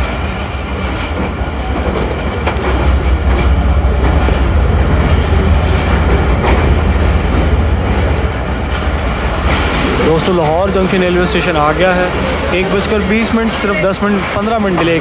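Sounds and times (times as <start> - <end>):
train coaches rumbling: 0.0 - 15.0.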